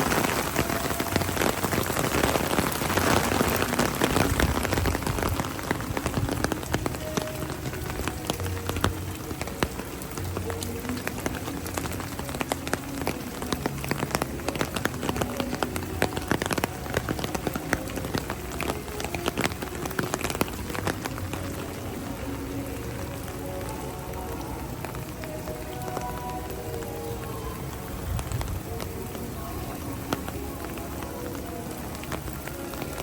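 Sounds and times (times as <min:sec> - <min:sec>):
faint music: 0:00.0 - 0:33.0
heavy rain falling: 0:00.0 - 0:33.0.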